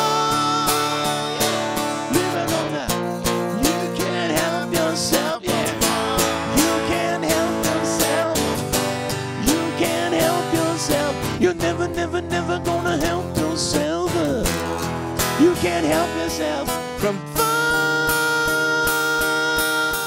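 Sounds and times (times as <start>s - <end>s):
acoustic guitars strumming: 0.0s - 20.0s.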